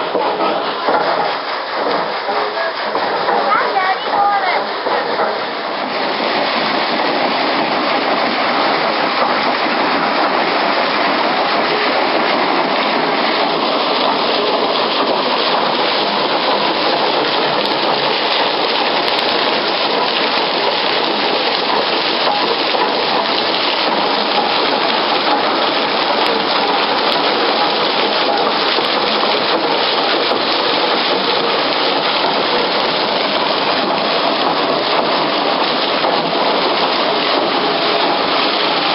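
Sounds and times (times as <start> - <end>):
falling water rushing: 0.0 - 38.9.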